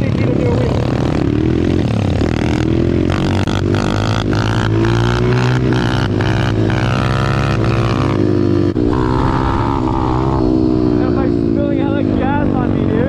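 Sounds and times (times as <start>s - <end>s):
pit bike engines running: 0.0s - 13.0s.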